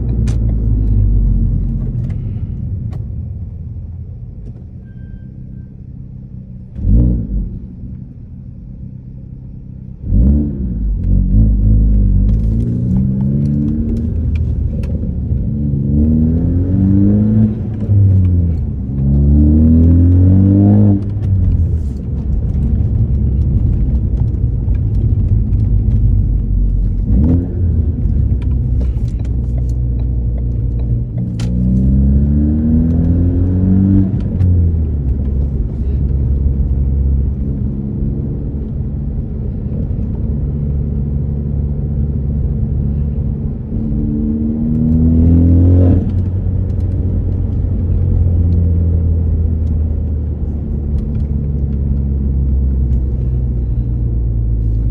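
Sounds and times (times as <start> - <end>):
car engine accelerating: 6.6 - 54.9.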